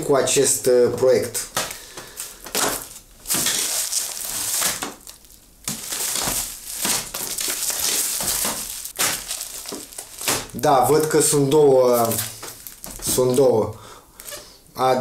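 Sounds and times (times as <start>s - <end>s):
packaging crinkling: 1.5s - 13.6s.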